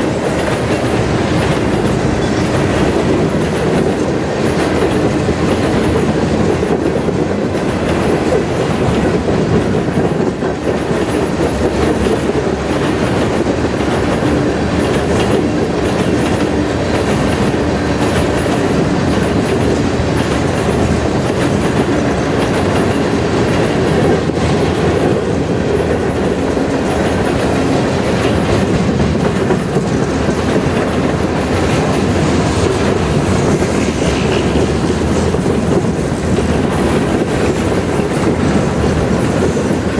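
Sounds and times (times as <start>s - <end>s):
freight train wheels rumbling: 0.0s - 39.9s
wheels clickety-clack over rail joints: 0.0s - 39.9s.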